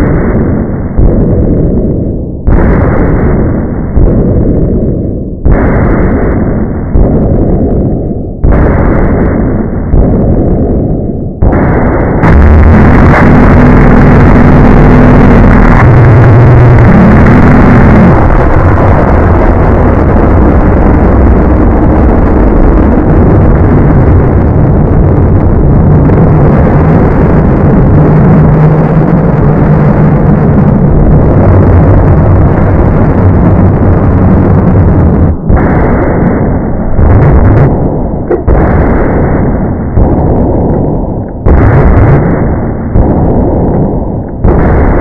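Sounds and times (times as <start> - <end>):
harshly distorted noise: 0.0 - 45.0
low droning tones: 0.0 - 45.0.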